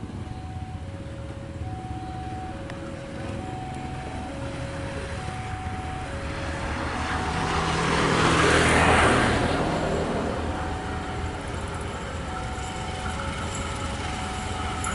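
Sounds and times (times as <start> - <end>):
train rumble: 0.0 - 14.9
two-tone electronic warning signal: 0.0 - 14.9.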